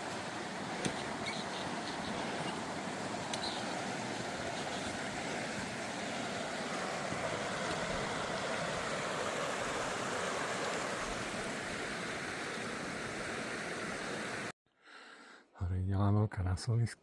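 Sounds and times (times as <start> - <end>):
mountain stream rushing: 0.0 - 14.5.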